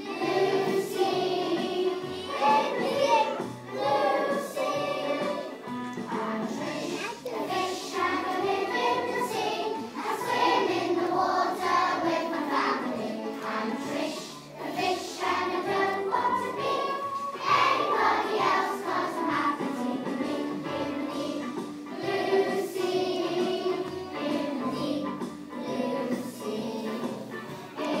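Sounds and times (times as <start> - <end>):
young children singing: 0.0 - 28.0.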